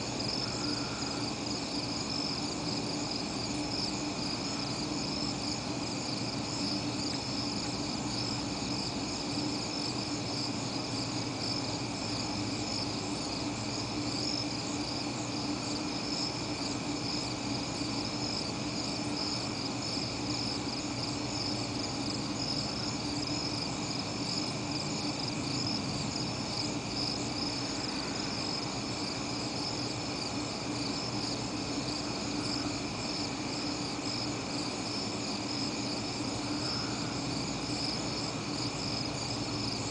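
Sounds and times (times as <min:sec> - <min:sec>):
night insects chirring: 0:00.0 - 0:39.9
steady low hum: 0:00.0 - 0:39.9.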